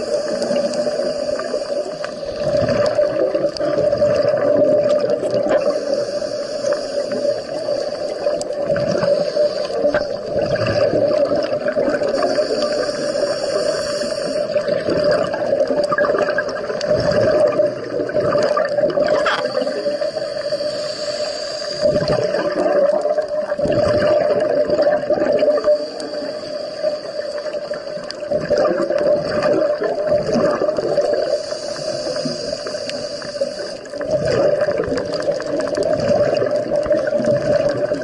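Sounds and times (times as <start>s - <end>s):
gurgling bubbles: 0.0s - 38.0s
underwater drone: 0.0s - 38.0s.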